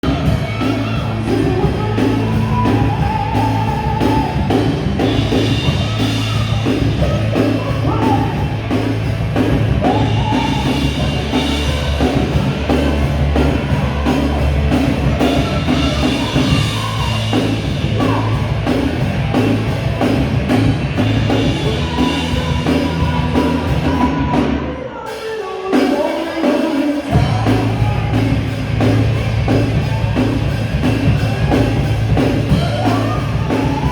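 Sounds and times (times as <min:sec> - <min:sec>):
person singing: 0:00.0 - 0:08.8, 0:09.4 - 0:19.4, 0:21.1 - 0:33.9
rock band playing: 0:00.0 - 0:33.9.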